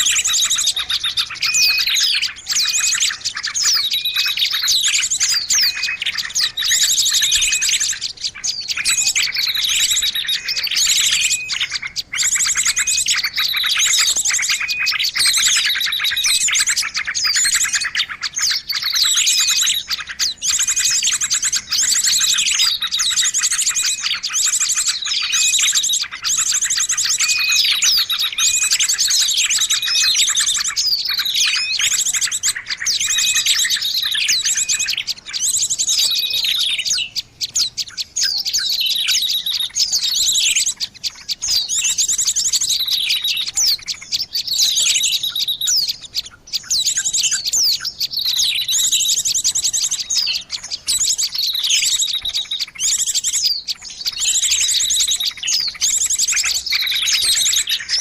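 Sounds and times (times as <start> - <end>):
small birds chattering: 0.0 - 58.0.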